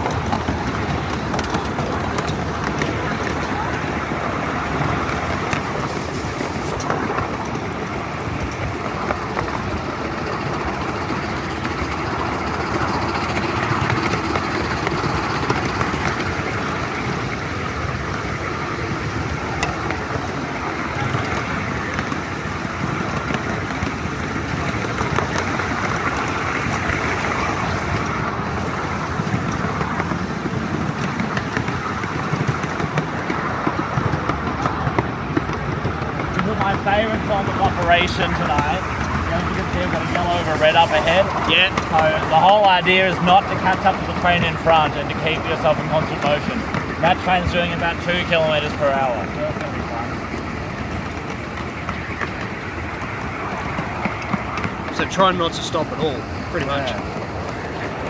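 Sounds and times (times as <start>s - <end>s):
miniature steam train running: 0.0s - 58.0s.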